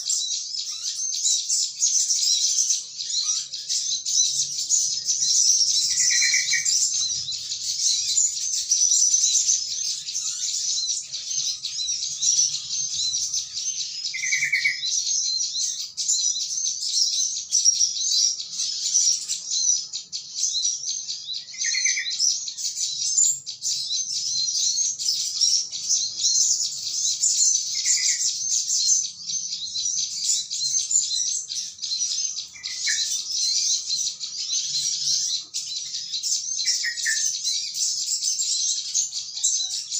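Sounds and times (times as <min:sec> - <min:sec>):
flock of small birds twittering: 0:00.0 - 0:39.9.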